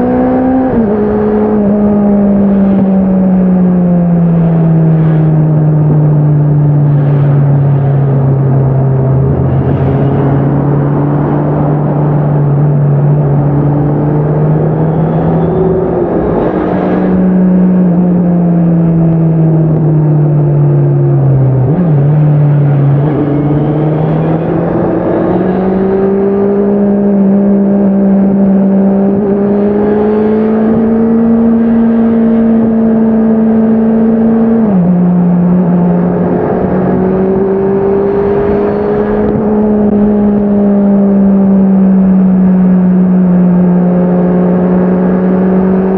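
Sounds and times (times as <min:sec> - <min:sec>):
motorcycle engine and exhaust: 0:00.0 - 0:45.9.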